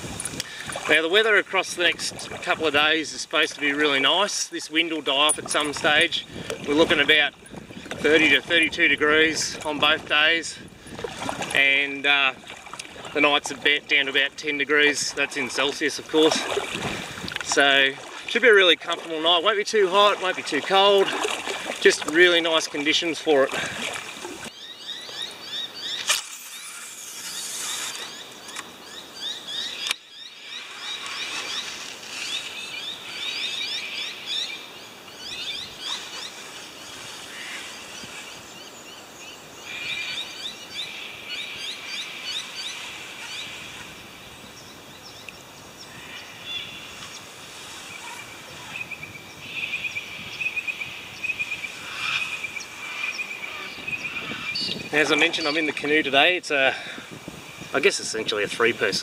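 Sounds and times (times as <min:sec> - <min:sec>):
birds chirping: 0:00.0 - 0:59.0
outdoor ambience hiss: 0:11.7 - 0:59.0.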